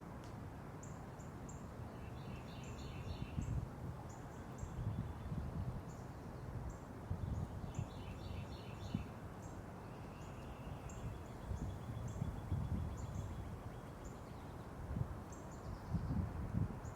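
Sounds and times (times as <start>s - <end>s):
lower bird chirping: 0.8s - 16.9s.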